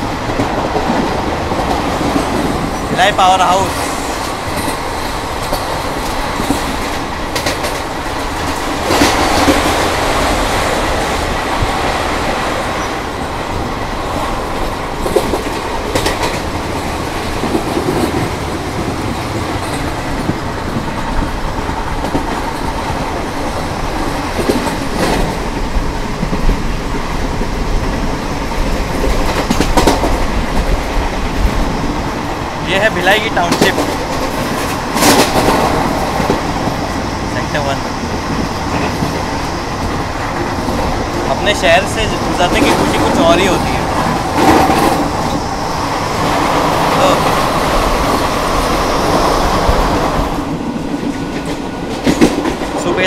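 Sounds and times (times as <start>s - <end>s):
rail joint clicks: 0.0s - 53.0s
train wheels rumbling on track: 0.0s - 53.0s.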